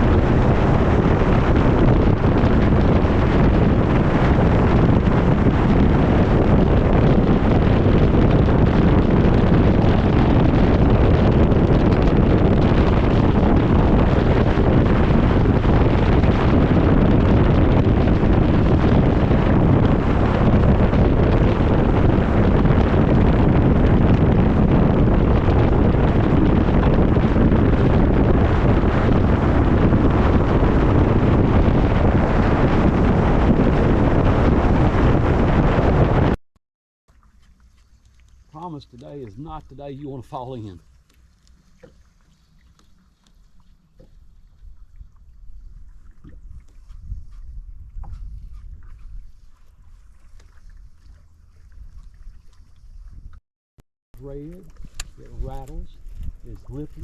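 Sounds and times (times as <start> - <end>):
boat on water: 0.0 - 36.4, 37.1 - 53.4, 54.2 - 57.0
wind buffeting microphone: 0.0 - 36.4, 37.2 - 53.4, 54.2 - 57.0.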